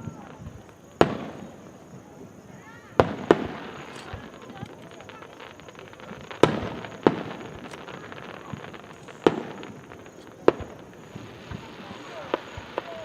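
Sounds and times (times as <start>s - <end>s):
fireworks booming: 0.0s - 13.0s
fireworks crackling: 0.0s - 13.0s.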